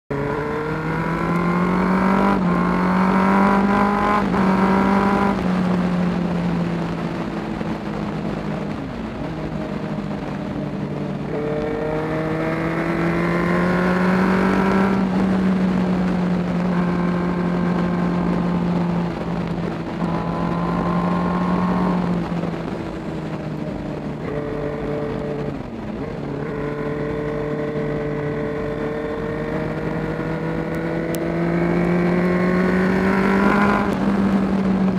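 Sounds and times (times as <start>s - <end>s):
motorcycle engine revving: 0.1s - 34.9s
wind rush on microphone: 0.1s - 34.9s.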